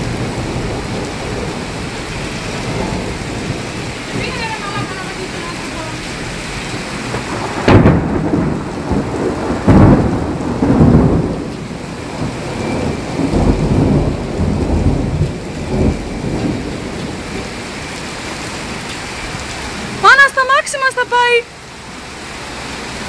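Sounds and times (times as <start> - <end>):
loud low thunder rumbles: 0.0 - 20.0
heavy rain falling: 0.0 - 23.0.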